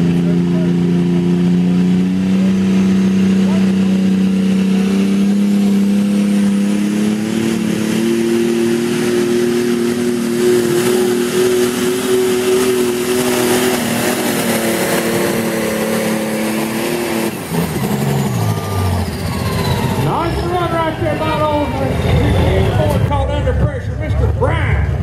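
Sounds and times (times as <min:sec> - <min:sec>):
pulling tractor engine at full throttle: 0:00.0 - 0:25.0.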